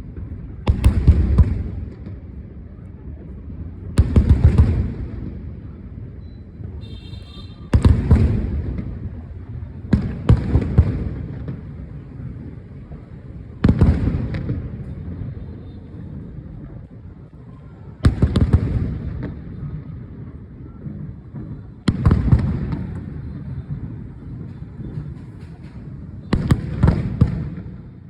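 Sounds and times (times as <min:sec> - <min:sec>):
fireworks bangs: 0:00.0 - 0:28.0
rumble after fireworks bangs: 0:00.0 - 0:28.0.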